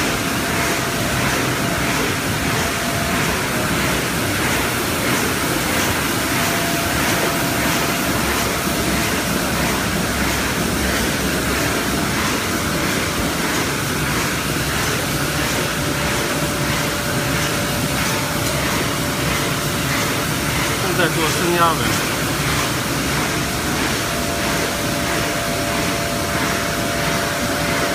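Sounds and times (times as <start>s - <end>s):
die-cutting machine running: 0.0s - 27.9s.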